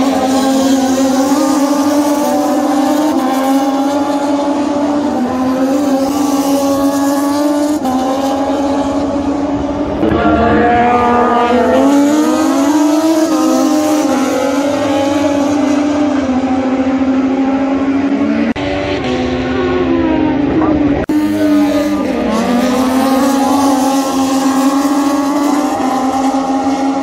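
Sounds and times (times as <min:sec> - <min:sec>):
racing motorcycle engines revving: 0:00.0 - 0:27.0.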